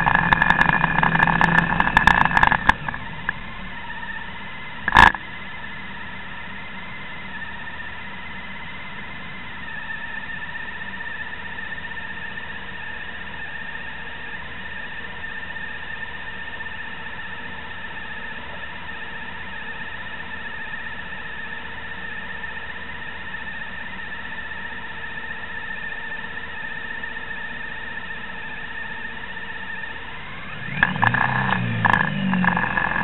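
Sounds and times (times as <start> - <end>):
low vehicle hum: 0.0 - 23.4, 27.9 - 33.0
high whining tones: 0.0 - 33.0
rough engine noise: 0.0 - 33.0.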